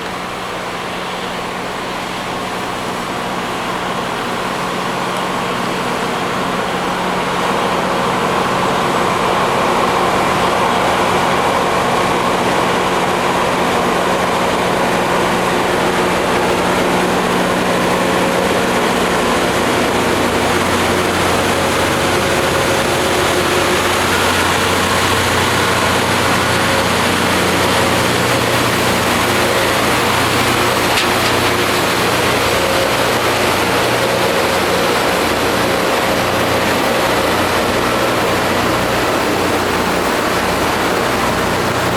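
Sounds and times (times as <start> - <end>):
diesel engines humming: 0.0 - 41.9
grinding wheels on rail: 0.0 - 41.9.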